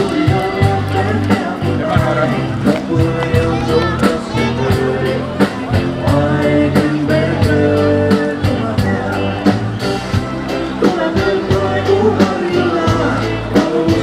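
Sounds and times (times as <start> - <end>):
band music with drum beat: 0.0 - 14.0.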